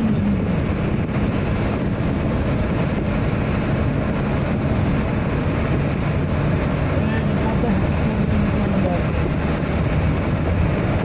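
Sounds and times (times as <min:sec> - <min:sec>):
car engine and tyre drone: 0:00.0 - 0:11.0.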